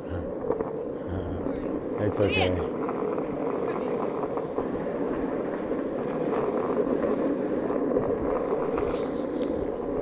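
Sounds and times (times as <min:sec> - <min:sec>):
strong wind blowing: 0:00.1 - 0:10.0.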